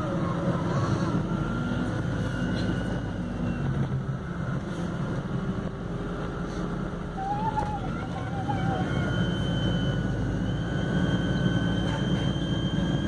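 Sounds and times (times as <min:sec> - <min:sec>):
bus low rumble: 0:00.0 - 0:13.0.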